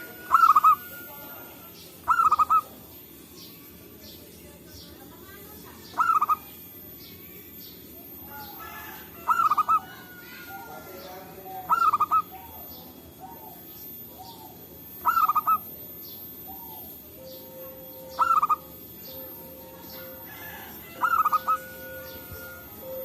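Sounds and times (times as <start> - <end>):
faint lower bird calls: 0.0 - 2.8, 5.8 - 23.0
dove cooing: 0.0 - 3.2, 5.8 - 6.8, 7.9 - 23.0.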